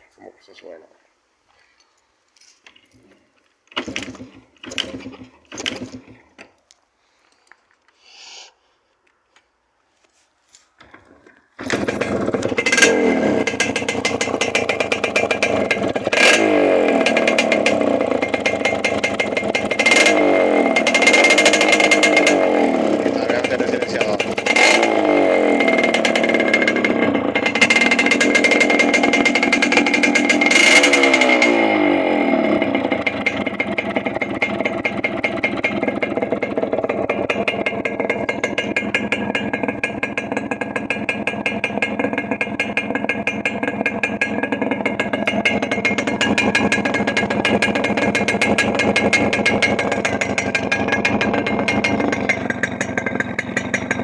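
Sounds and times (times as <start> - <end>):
two-stroke motorcycle engine: 3.7 - 6.6, 10.8 - 54.0.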